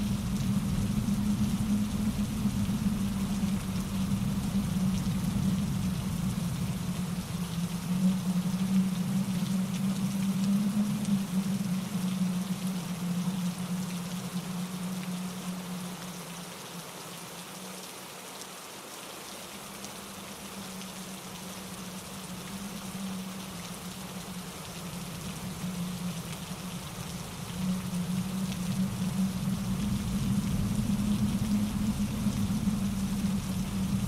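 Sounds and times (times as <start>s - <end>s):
rain falling: 0.0s - 34.0s
wind in the trees: 0.0s - 34.0s.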